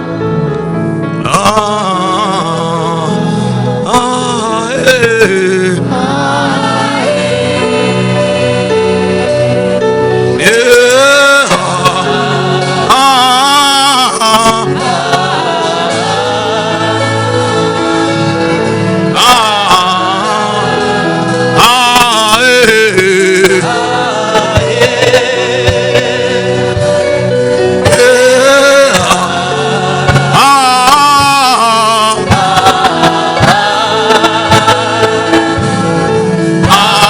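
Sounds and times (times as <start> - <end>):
gospel singing with vibrato: 0.0 - 37.0
sustained instrumental accompaniment: 0.0 - 37.0.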